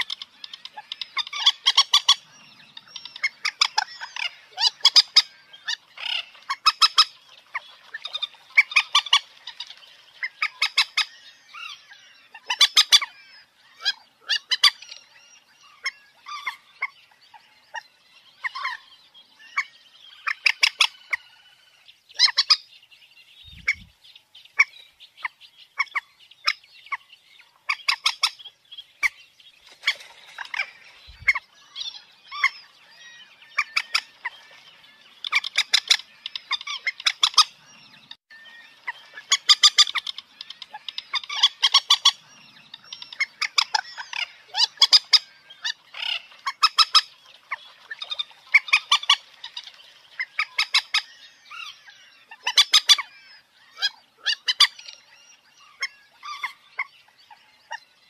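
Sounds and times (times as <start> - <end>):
moorhen clucking calls: 0.0 - 22.8, 23.4 - 57.9.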